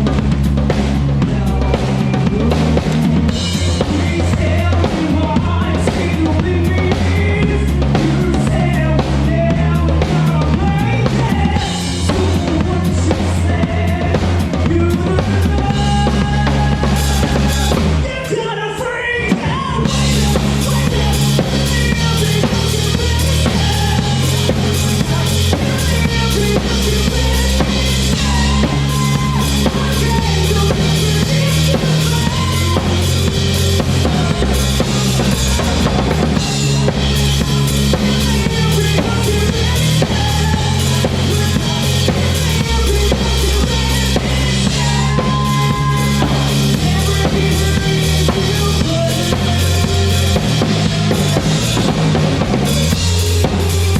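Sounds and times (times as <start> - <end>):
drum kit: 0.0 - 53.9
live rock band playing: 0.0 - 53.9.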